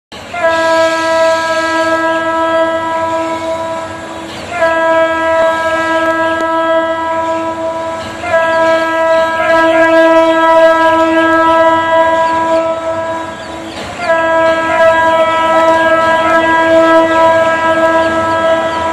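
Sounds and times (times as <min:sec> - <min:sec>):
train horn blasts: 0:00.2 - 0:18.9.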